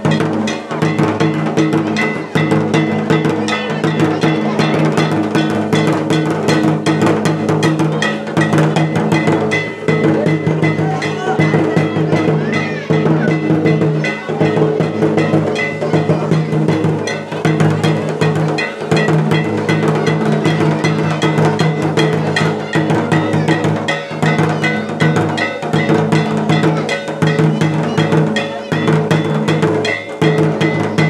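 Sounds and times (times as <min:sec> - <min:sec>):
drums beaten fast: 0:00.0 - 0:31.0.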